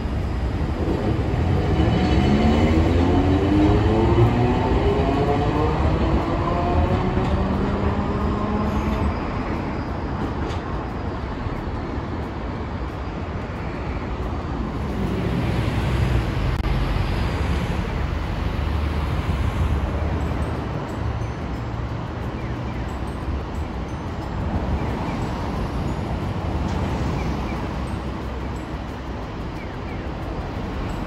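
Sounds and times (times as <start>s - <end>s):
road traffic rumble: 0.0s - 31.0s
streetcar motor whine: 0.0s - 31.0s.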